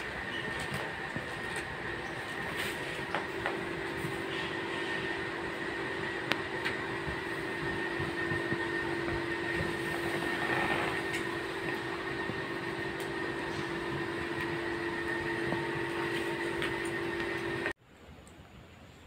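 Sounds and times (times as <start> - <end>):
mechanical hum with whine: 0.0 - 19.0
noisy hiss: 2.1 - 19.0.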